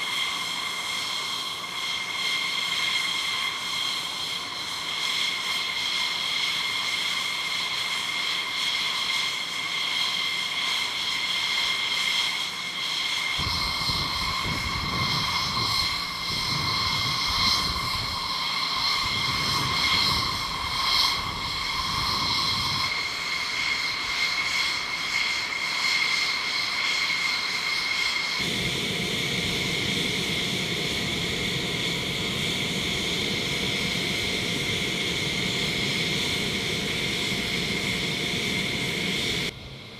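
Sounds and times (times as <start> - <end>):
jet engines high-pitched whine: 0.0 - 39.9.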